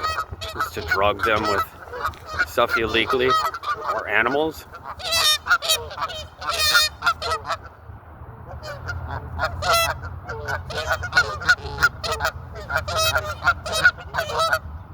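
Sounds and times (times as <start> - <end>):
geese honking: 0.0 - 14.7
low steady rumble: 0.0 - 14.9.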